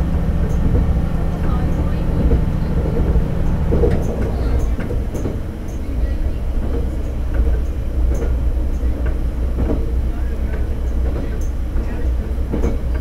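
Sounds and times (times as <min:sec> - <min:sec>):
diesel railcar engine rumble: 0:00.0 - 0:13.0.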